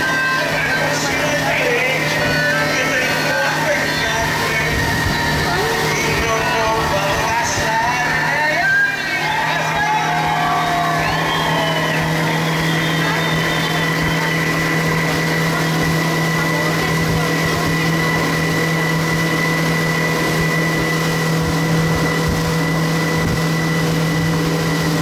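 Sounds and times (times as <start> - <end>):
motorboat engine running: 0.0 - 25.0
water rushing along hull: 0.0 - 25.0.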